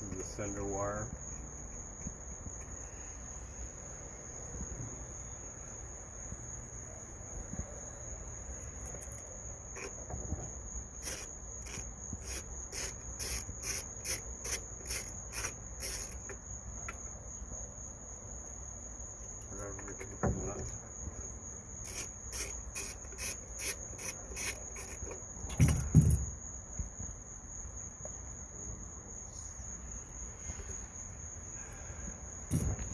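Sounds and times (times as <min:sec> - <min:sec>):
crickets droning: 0:00.0 - 0:32.9.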